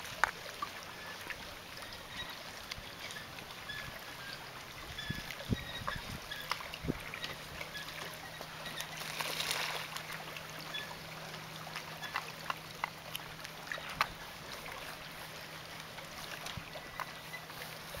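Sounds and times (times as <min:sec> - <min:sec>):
waves lapping at shore: 0:00.0 - 0:18.0.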